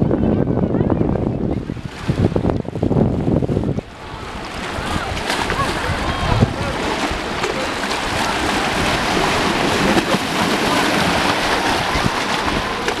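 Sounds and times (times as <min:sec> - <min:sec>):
waves lapping among boulders: 0:00.0 - 0:13.0.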